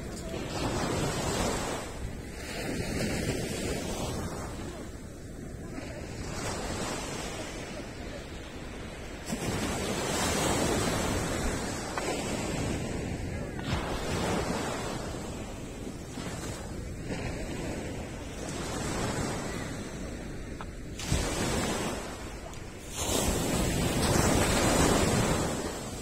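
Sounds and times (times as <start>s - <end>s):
waves washing on sandy beach: 0.0s - 26.0s.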